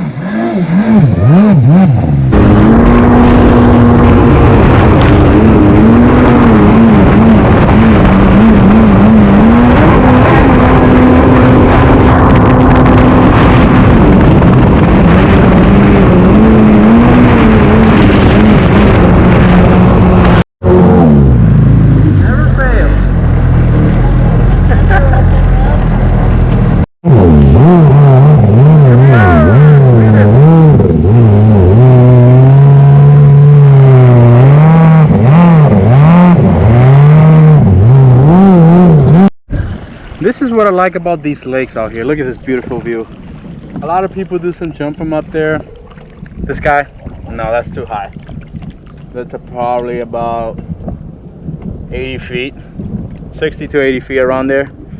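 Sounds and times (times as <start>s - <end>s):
jet ski engine: 0.0s - 50.1s
rushing water noise: 0.0s - 50.4s.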